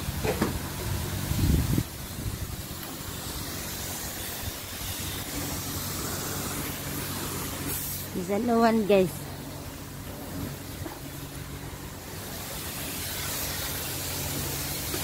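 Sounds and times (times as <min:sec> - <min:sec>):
pressure washer jet hissing: 0:00.0 - 0:15.0.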